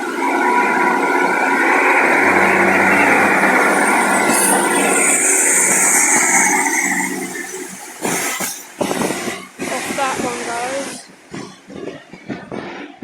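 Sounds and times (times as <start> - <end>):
high hiss: 0.0 - 11.2
diesel train engines pulling away: 0.0 - 11.9
wheels on rails: 0.0 - 13.0.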